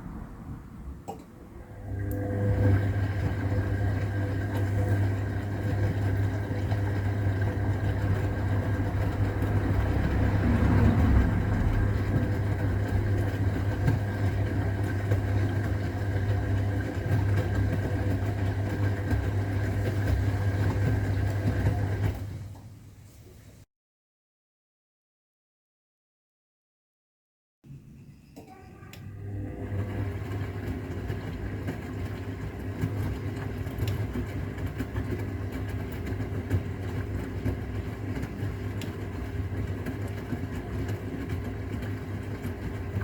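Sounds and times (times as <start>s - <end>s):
washing machine churning: 0.0s - 23.6s, 27.7s - 43.0s.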